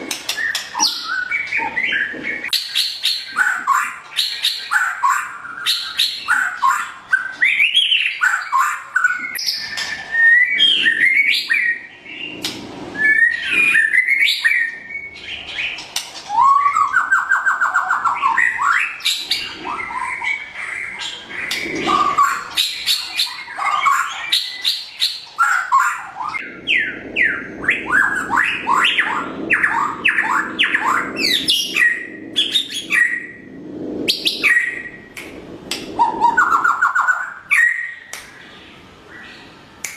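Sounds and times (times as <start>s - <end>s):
bird singing whistled phrases: 0.3s - 12.4s, 13.0s - 15.7s, 16.3s - 33.4s, 34.1s - 35.0s, 36.0s - 38.4s.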